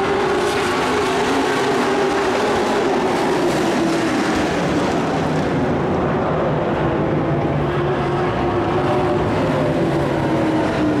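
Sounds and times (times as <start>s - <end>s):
race truck engines droning: 0.0s - 11.0s.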